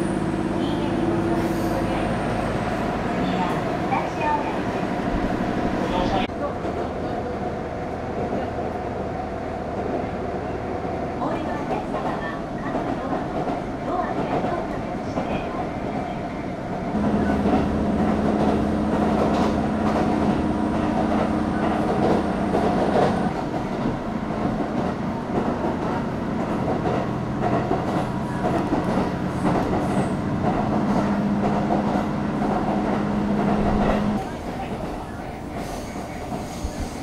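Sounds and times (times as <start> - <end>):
passenger train running on rails: 0.0 - 37.0.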